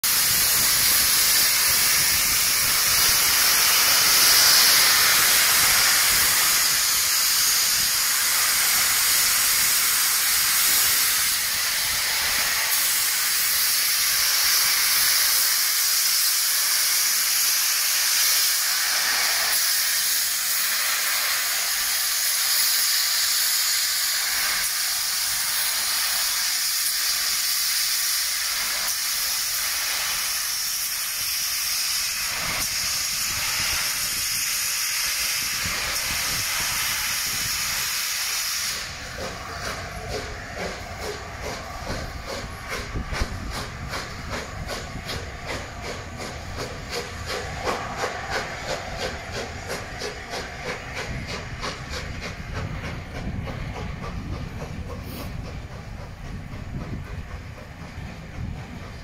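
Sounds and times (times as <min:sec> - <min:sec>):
steam locomotive hissing steam: 0:00.0 - 0:59.0.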